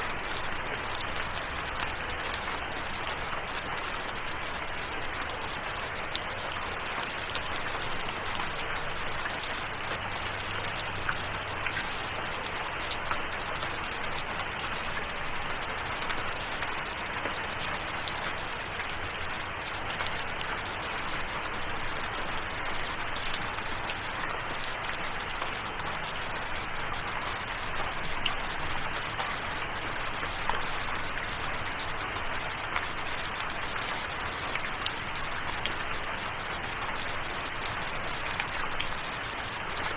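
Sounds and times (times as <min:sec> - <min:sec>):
raindrops ticking: 0:00.0 - 0:39.9.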